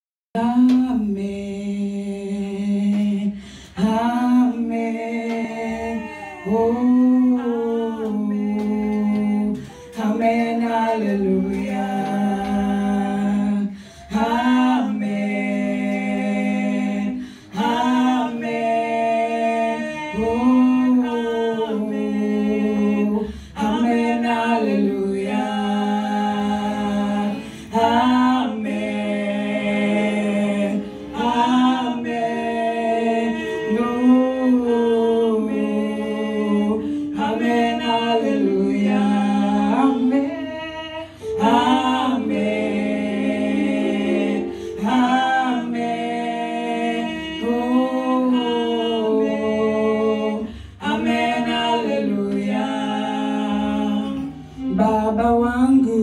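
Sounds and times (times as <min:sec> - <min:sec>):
women singing a cappella: 0:00.4 - 0:56.0.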